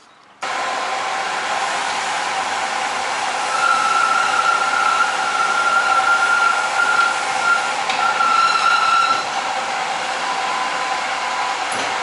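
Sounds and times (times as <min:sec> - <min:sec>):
electric roller drive whining: 0:00.4 - 0:12.0.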